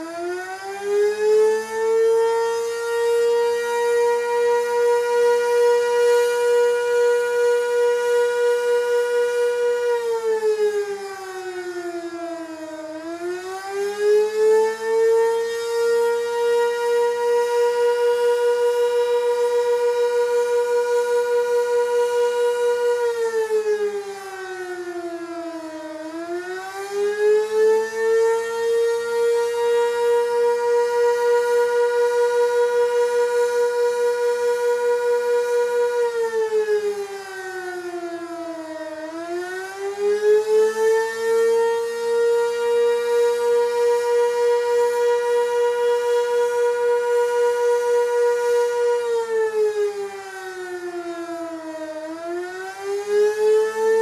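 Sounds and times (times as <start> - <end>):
warning siren: 0.0 - 54.0.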